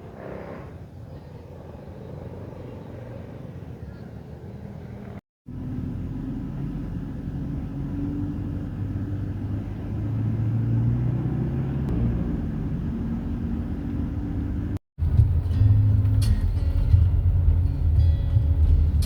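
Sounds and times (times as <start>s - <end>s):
road noise: 0.0s - 19.0s
vehicle engine rumble: 0.0s - 19.0s.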